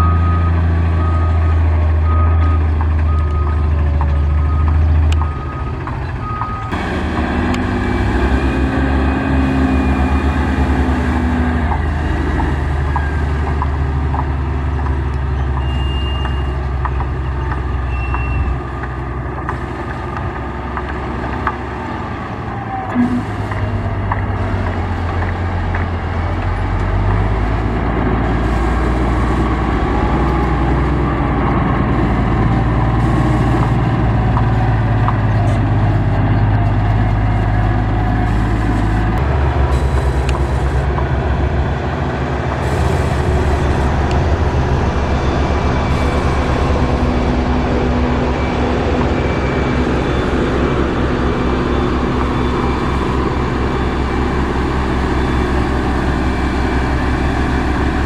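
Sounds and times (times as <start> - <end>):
heavy machinery engines running: 0.0 - 58.0.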